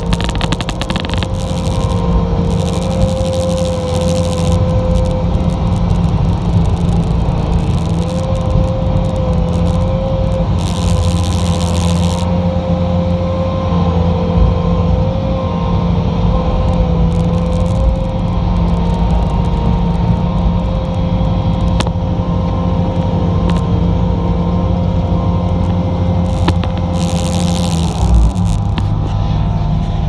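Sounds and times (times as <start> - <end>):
diesel engine running under load: 0.0 - 30.0
steady mechanical whine: 0.0 - 30.0.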